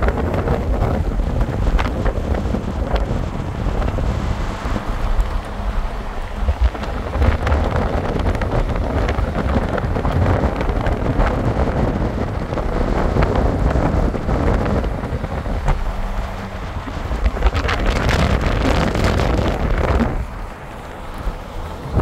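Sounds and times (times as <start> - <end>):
car road and engine noise: 0.0 - 22.0
wind buffeting microphone: 0.0 - 22.0.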